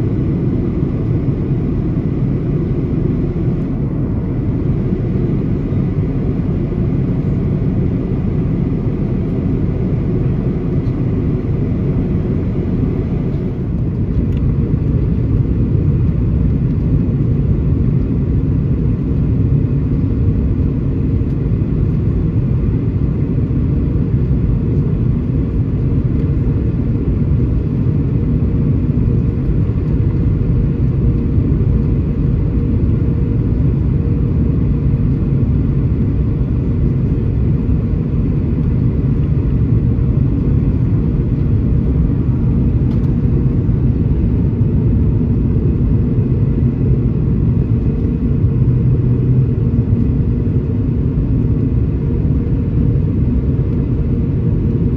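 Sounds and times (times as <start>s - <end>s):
airplane cabin rumble: 0.0s - 54.9s
faint steady hum: 0.0s - 54.9s.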